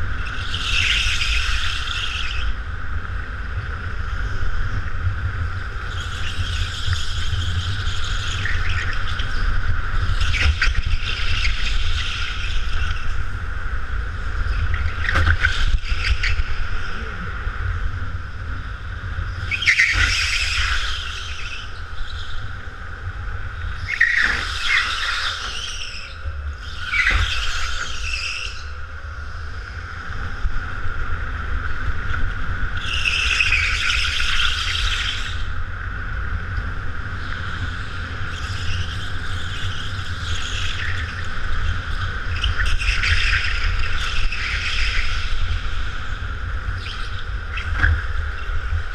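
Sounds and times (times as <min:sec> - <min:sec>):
go-kart tyres squealing: 0:00.0 - 0:03.2, 0:04.8 - 0:30.4, 0:31.0 - 0:35.8, 0:36.4 - 0:48.9
go-kart engine drone: 0:00.0 - 0:48.9
low chassis vibration rumble: 0:00.0 - 0:48.9.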